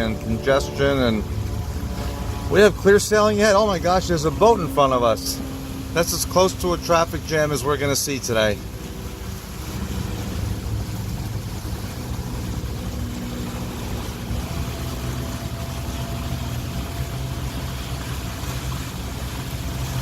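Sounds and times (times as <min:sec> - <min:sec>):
boat engine humming: 0:00.0 - 0:20.0
water and wind hiss: 0:00.0 - 0:20.0.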